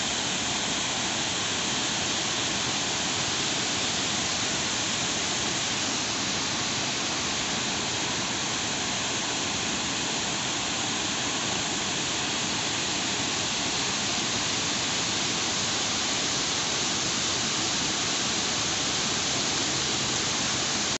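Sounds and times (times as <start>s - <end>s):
water rushing over dam weir: 0.0s - 20.9s.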